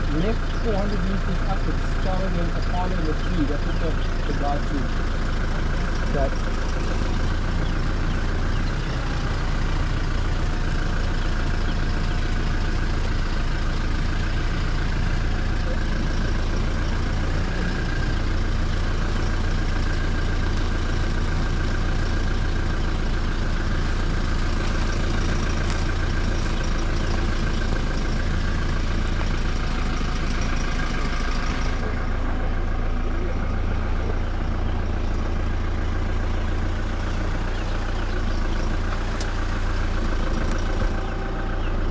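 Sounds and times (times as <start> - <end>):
vehicle engine low rumble: 0.0 - 41.9.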